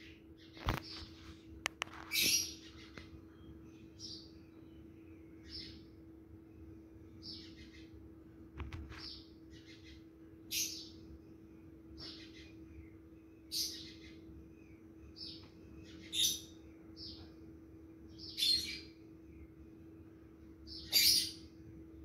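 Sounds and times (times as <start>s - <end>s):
small bird chirping: 0.0s - 22.0s
steady low hum: 0.0s - 22.0s.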